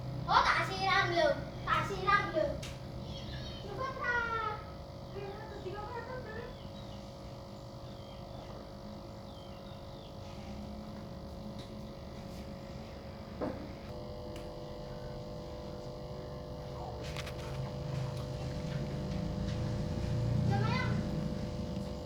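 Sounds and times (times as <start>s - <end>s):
aquarium pump humming: 0.0s - 22.0s.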